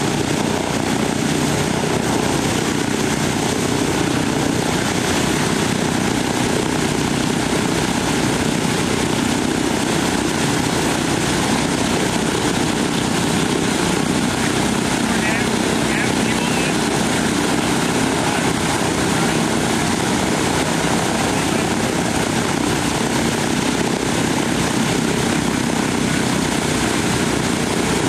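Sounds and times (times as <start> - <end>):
propeller aircraft engines droning: 0.0 - 28.0.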